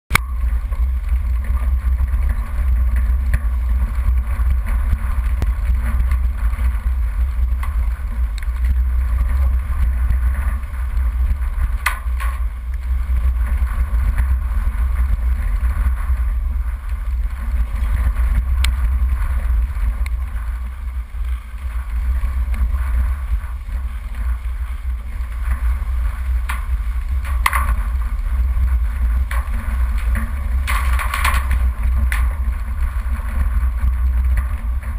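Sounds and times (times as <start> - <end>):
off-road vehicle engine rumble: 0.1 - 34.9.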